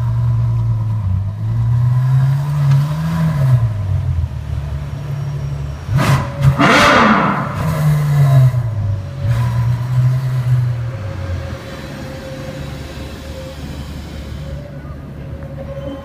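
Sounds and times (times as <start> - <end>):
car engine revving and idling: 0.0 - 15.5.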